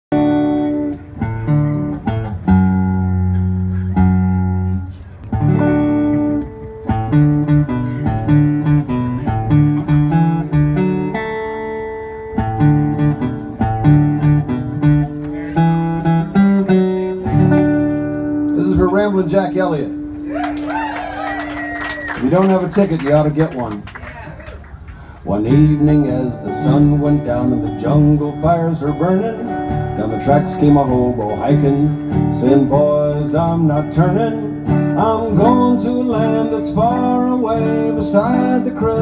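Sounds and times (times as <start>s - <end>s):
solo acoustic guitar: 0.1s - 20.3s, 25.2s - 39.0s.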